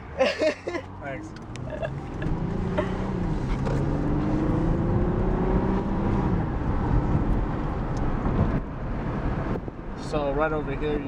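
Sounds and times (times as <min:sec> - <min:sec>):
car engine hum: 0:00.0 - 0:11.0
road and wind noise: 0:00.0 - 0:11.0.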